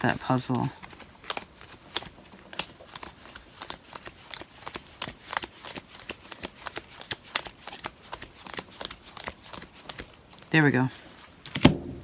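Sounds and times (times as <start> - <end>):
cards clicking and rustling: 0.0 - 12.0.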